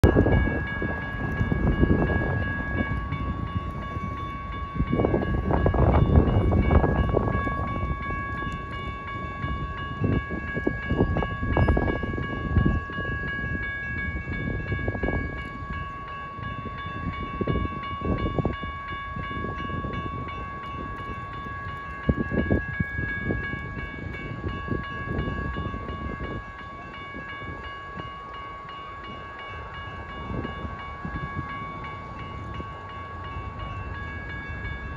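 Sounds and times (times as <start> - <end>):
crossing warning bells ringing: 0.0 - 34.9.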